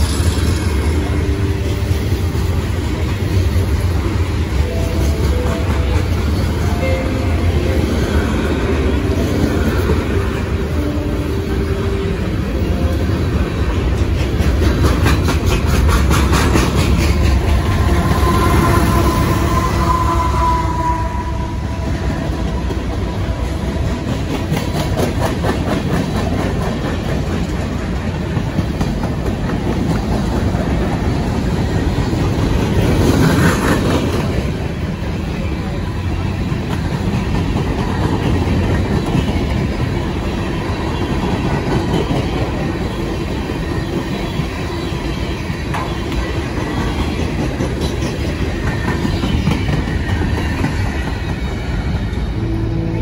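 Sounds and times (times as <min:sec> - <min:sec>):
train wheels rumbling and clacking: 0:00.0 - 0:53.0.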